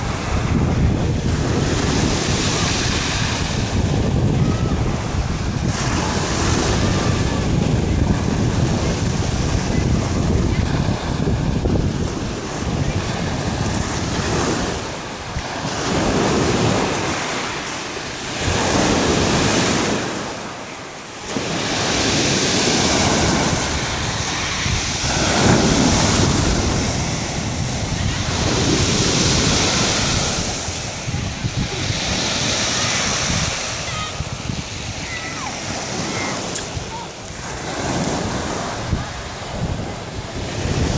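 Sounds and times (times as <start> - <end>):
wind buffeting microphone: 0.0 - 20.6, 21.2 - 40.9
waves breaking on pebble beach: 0.0 - 40.9.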